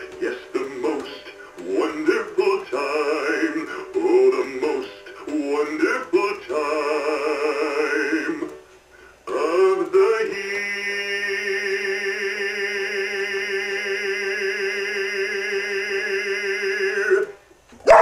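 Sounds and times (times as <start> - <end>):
music: 0.0 - 17.8.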